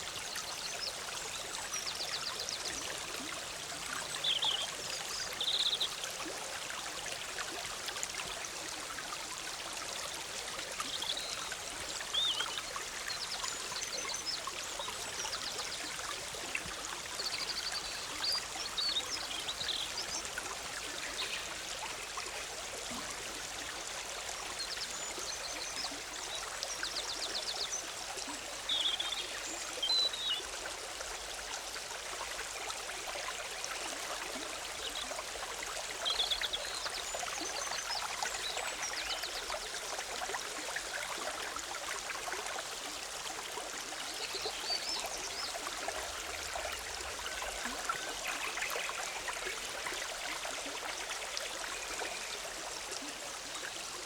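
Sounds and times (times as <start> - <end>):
stream bubbling and rushing: 0.0 - 54.0.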